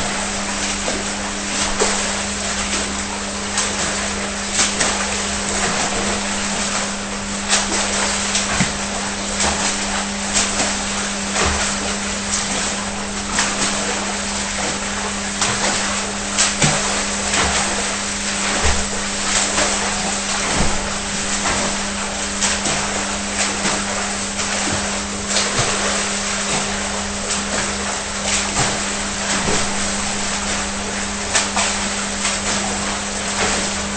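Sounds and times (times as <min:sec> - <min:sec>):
motor hum: 0:00.0 - 0:33.9.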